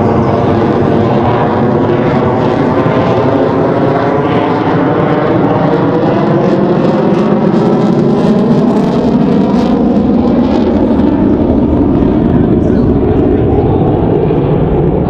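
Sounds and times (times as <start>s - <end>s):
jet engines roaring overhead: 0.0s - 15.0s.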